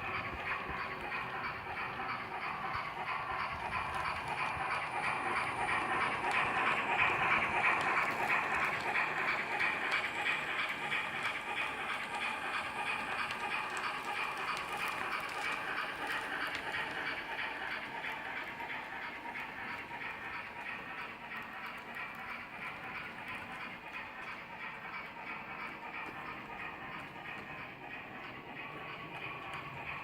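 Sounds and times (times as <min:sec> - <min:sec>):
rapid steam chuffing: 0:00.0 - 0:30.0
train rolling noise: 0:00.0 - 0:30.0.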